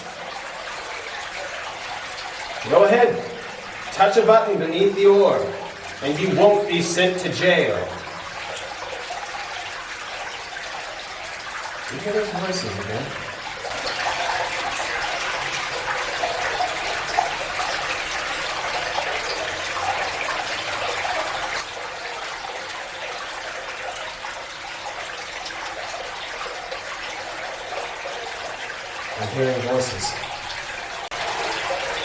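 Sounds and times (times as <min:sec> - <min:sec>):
water rushing in tunnel: 0:00.0 - 0:32.0.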